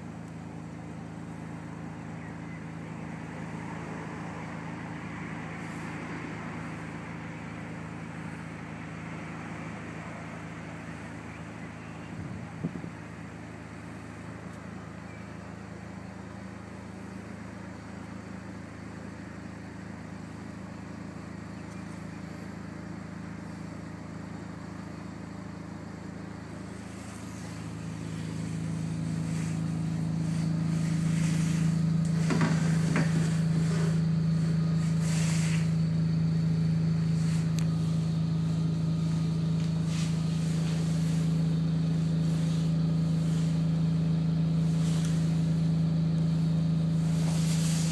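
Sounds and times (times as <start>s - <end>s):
large engine humming: 0.0s - 47.9s.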